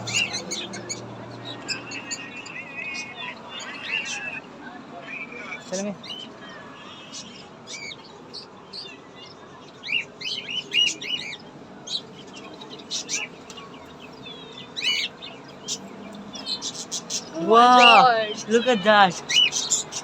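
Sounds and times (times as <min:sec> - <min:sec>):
caged birds chirping: 0:00.0 - 0:20.0.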